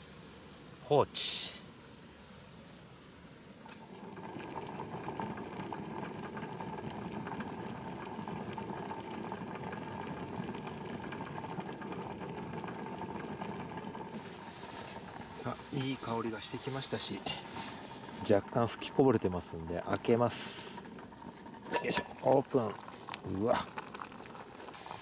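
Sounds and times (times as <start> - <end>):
pot boiling and bubbling: 3.2 - 25.0.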